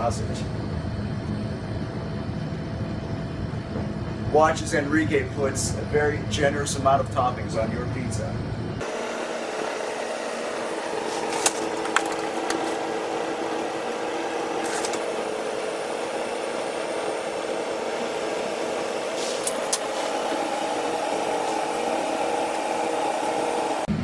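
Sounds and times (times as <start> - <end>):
kitchen machinery hum: 0.0 - 24.0.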